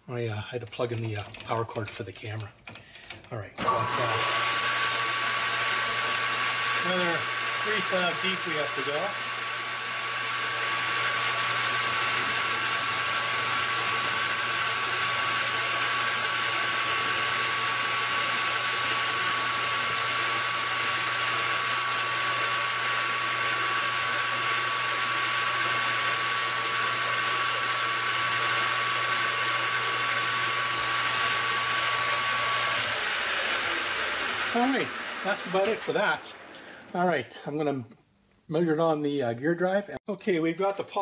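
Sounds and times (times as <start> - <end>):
metal lathe cutting: 3.0 - 37.0.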